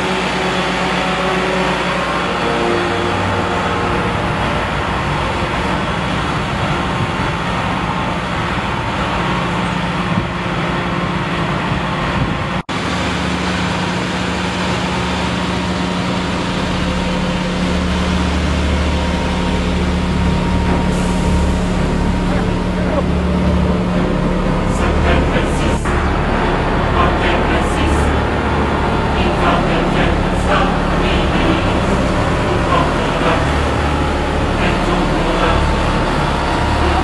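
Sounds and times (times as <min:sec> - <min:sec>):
road surfacing machine running: 0:00.0 - 0:37.0.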